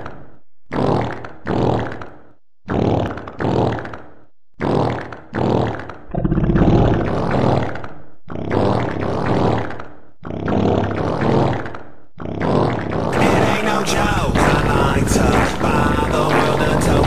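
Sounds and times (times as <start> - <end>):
fart sounds: 0.0 - 17.0.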